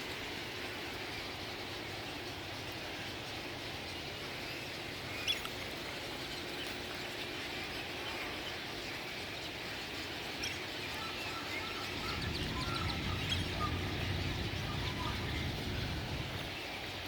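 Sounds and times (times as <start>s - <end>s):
outdoor background noise: 0.0s - 17.0s
birds chirping: 1.1s - 17.0s.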